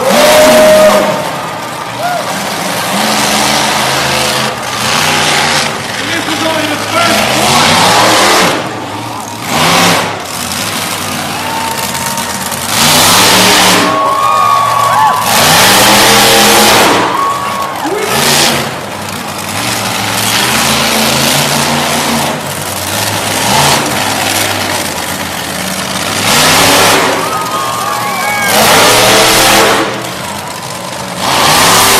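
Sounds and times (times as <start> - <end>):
monster truck engine revving: 0.0 - 31.9.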